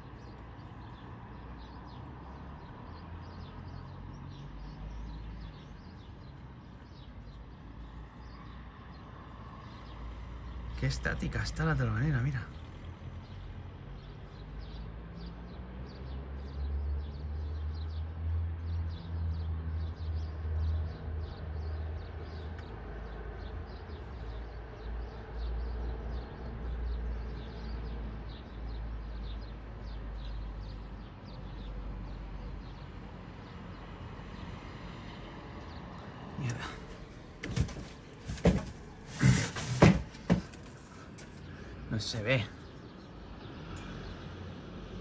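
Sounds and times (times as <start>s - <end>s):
small birds chirping: 0.0s - 18.1s, 19.0s - 34.4s, 35.6s - 44.6s.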